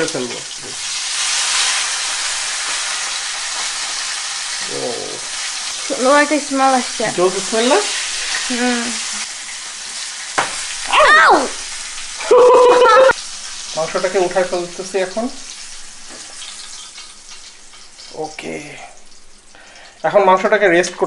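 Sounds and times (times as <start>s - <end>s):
steak sizzling in a frying pan: 0.0s - 21.0s.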